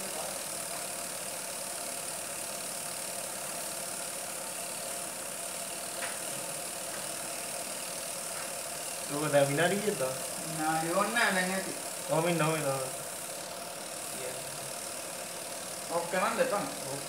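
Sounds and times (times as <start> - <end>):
washing machine motor running: 0.0 - 17.0.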